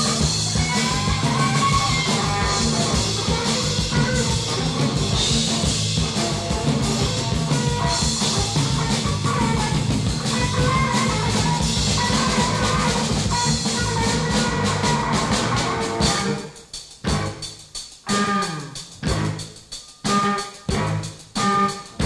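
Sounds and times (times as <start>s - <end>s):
drum kit beat: 0.0s - 22.0s
rock band playing: 0.0s - 22.0s.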